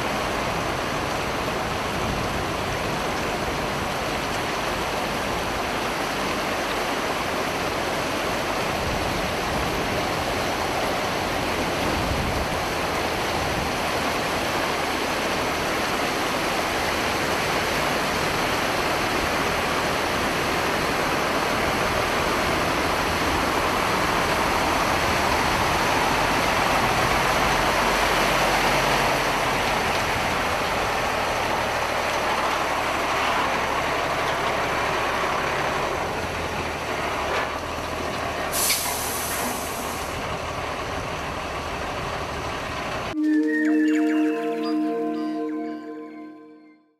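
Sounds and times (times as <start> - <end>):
floodwater rushing: 0.0 - 37.8
heavy truck engine: 0.0 - 43.2.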